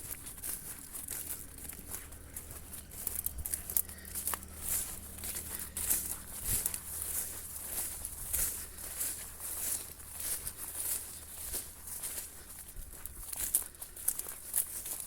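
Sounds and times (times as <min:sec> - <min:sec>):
faint low rumble: 0:00.0 - 0:15.0.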